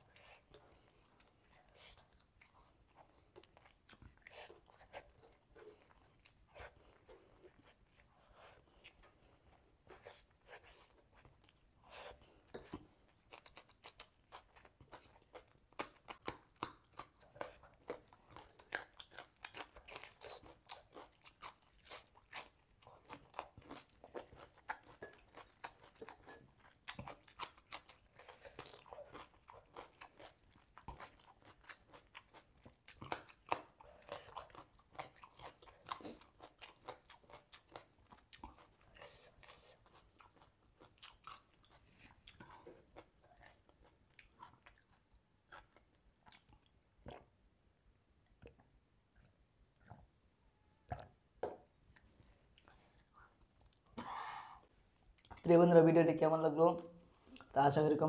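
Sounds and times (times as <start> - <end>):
person chewing and crunching: 0.0 - 47.5, 50.8 - 55.5.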